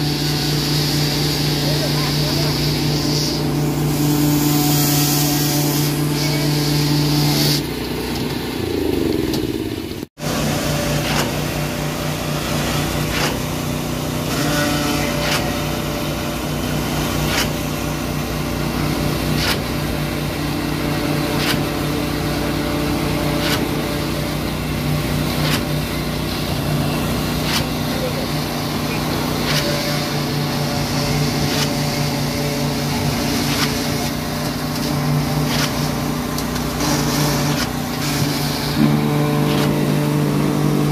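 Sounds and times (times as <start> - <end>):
pump engine running: 0.0 - 40.9.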